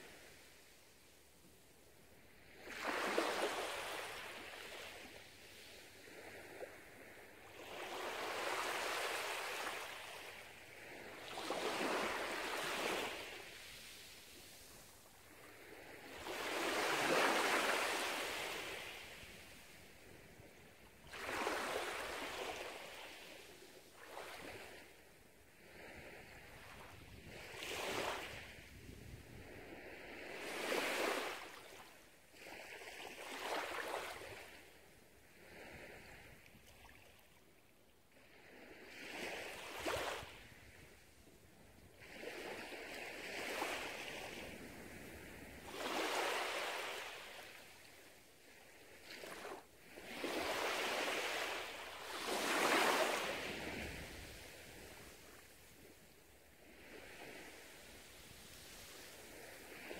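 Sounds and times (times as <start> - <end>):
small waves washing on sand: 0.0 - 37.4, 38.1 - 59.9.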